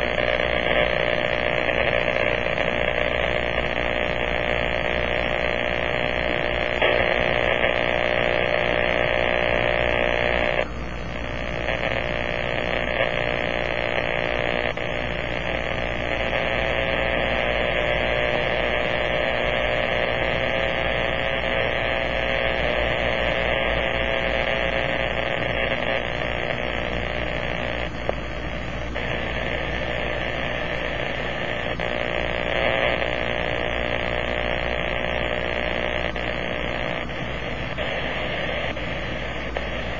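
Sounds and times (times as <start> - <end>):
powerline interference buzzing: 0.0 - 39.9.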